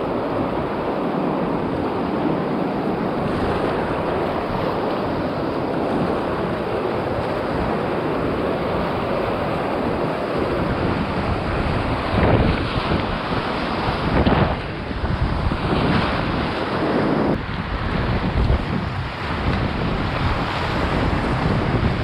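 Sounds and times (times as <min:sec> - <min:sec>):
whitewater rapid roaring: 0:00.0 - 0:22.0.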